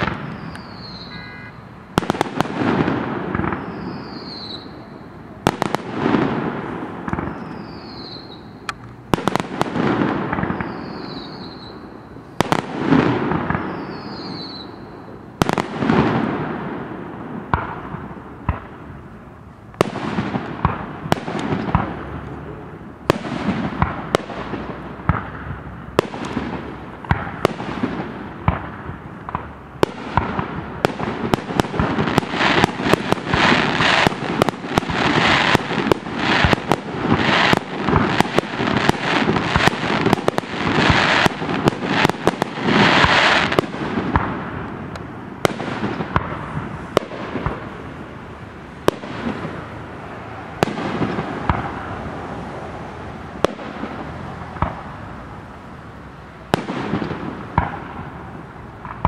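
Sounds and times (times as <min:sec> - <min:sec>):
firework bangs with echo: 0:00.0 - 0:14.8, 0:15.4 - 0:19.0, 0:19.8 - 0:48.0, 0:48.8 - 0:49.8, 0:50.5 - 0:52.0, 0:53.4 - 0:54.9, 0:56.5 - 0:59.0.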